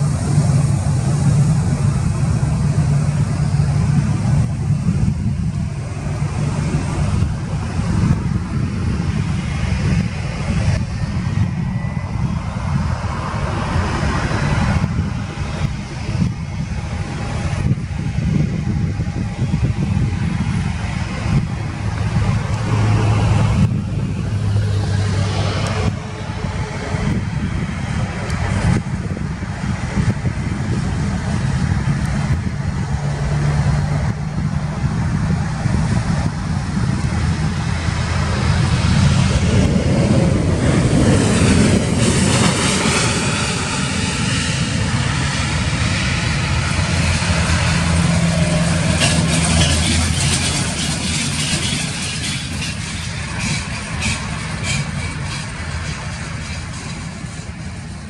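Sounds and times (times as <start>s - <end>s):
jet engines roaring: 0.0s - 58.0s
taxiing jet engines humming: 0.0s - 58.0s.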